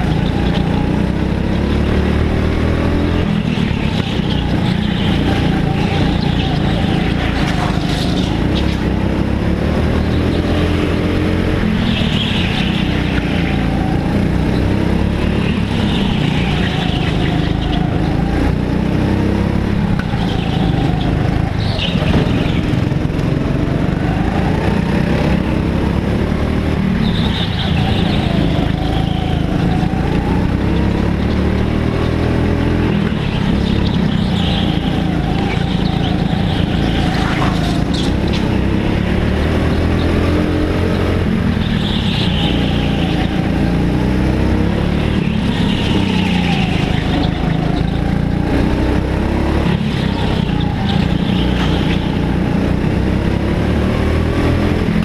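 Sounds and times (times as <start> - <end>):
go-kart engine revving: 0.0 - 55.0
other karts running: 0.0 - 55.0.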